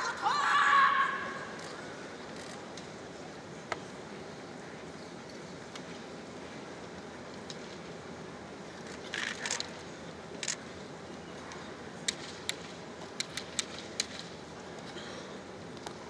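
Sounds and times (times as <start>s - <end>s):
arena crowd hum: 0.0s - 13.2s.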